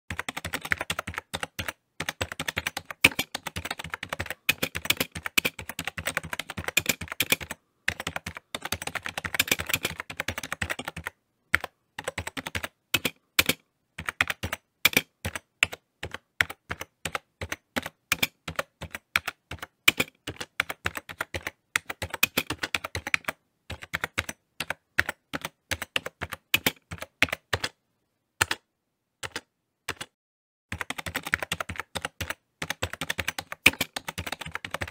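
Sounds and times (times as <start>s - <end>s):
phone keyboard typing clicks: 0.1s - 27.8s, 28.4s - 34.9s.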